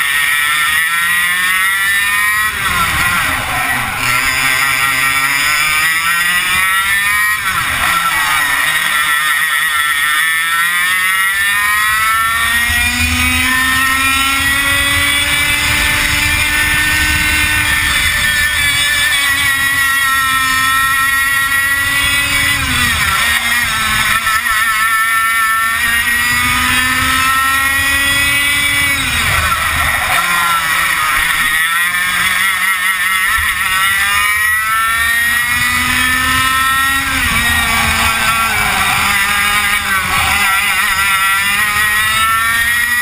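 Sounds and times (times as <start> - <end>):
two-stroke kart engine racing: 0.0 - 43.0.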